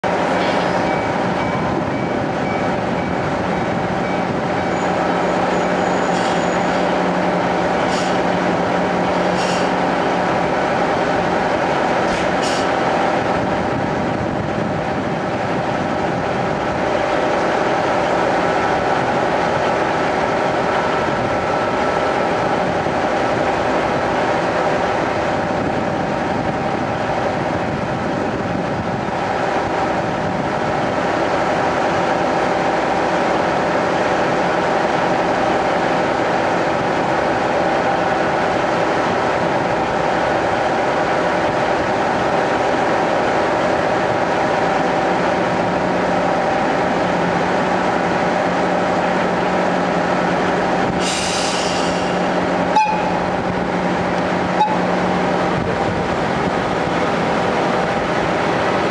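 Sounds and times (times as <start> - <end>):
diesel railcar engine idling: 0.0 - 58.9
railcar pulling in: 0.0 - 58.9.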